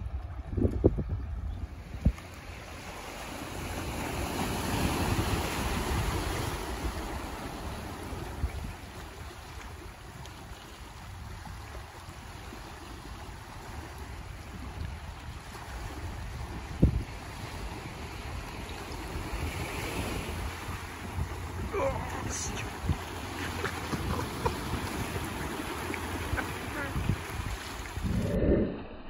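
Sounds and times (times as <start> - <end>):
small waves washing onto beach: 0.0 - 28.4
wind rumbling on microphone: 0.0 - 29.0.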